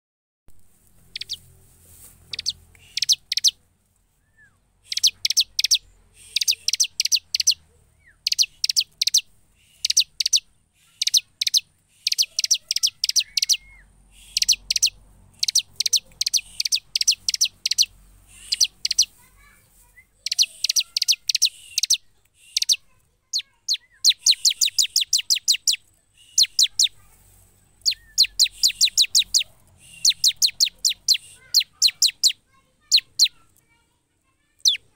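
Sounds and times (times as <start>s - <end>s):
bird singing sharp high chips: 1.0s - 1.5s, 2.3s - 3.6s, 4.2s - 33.5s, 34.6s - 34.9s.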